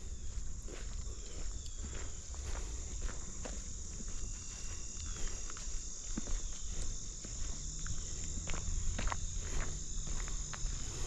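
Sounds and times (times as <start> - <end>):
crickets chirping: 0.0 - 11.0
footsteps through vegetation: 0.0 - 11.0.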